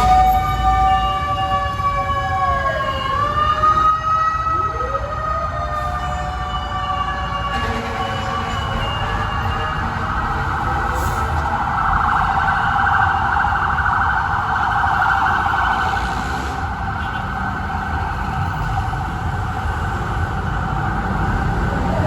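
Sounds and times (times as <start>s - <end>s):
fire truck siren: 0.0s - 22.0s
road noise: 0.0s - 22.0s.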